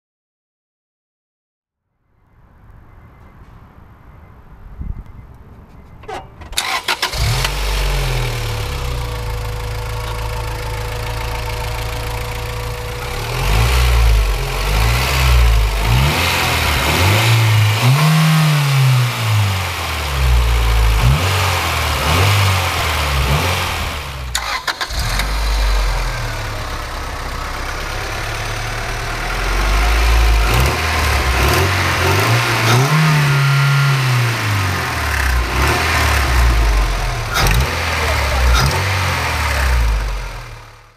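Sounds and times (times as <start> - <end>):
car engine starting: 6.0 - 40.9
car engine idling: 6.6 - 40.9
car engine revving: 6.6 - 40.9.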